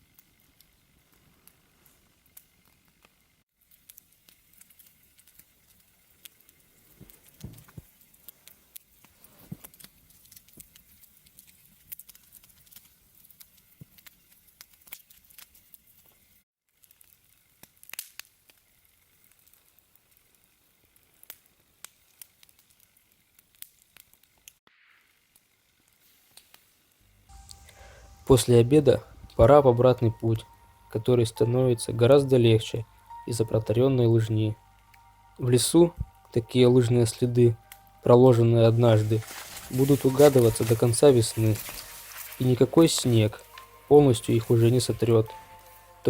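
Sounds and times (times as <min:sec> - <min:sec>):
campfire crackling: 0:00.0 - 0:46.0.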